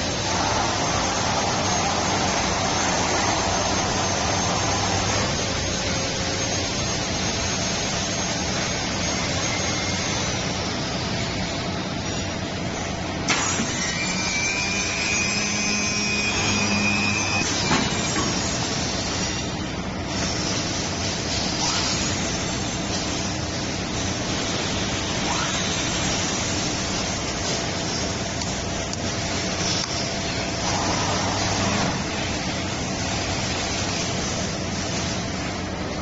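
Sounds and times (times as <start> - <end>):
high motor whine: 0.0 - 36.0.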